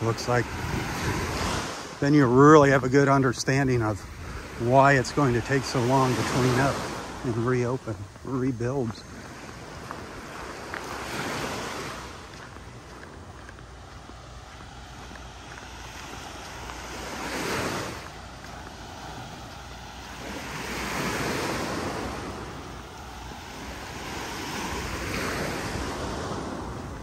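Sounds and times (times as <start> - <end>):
small waves breaking on beach: 0.0 - 27.0
wind rumble on microphone: 0.0 - 27.0.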